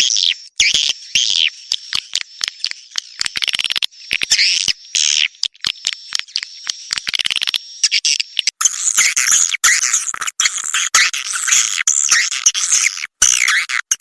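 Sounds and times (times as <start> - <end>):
twittering bird chirps: 0.0 - 14.0.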